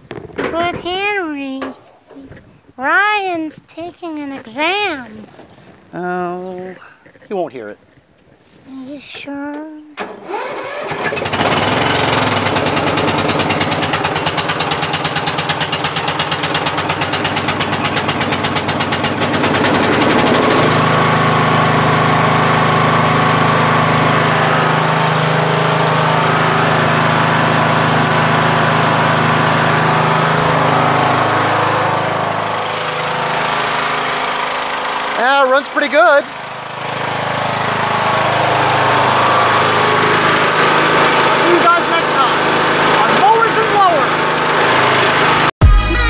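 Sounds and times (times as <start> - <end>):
lawn tractor engine running: 0.0 - 7.4, 9.1 - 45.8.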